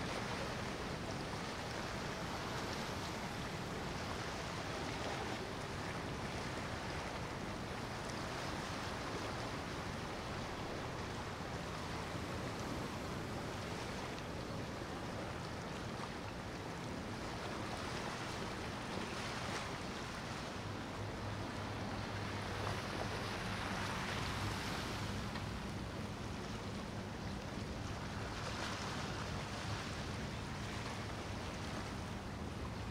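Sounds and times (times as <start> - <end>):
boat engine hum: 0.0 - 32.9
choppy water washing: 0.0 - 32.9
wind: 0.0 - 32.9.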